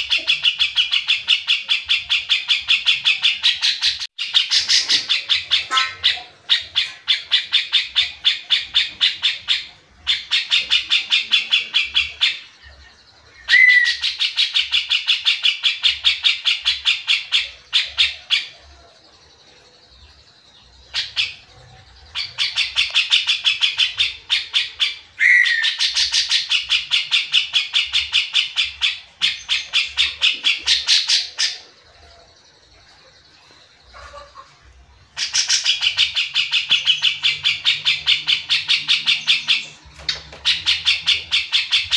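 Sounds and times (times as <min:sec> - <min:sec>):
bird singing chattering notes: 0:00.0 - 0:41.9.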